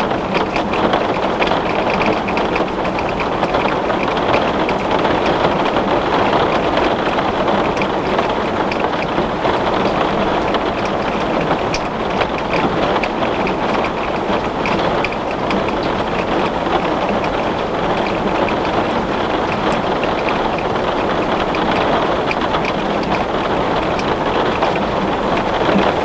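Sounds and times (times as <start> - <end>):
heavy rain on glass: 0.0 - 26.0.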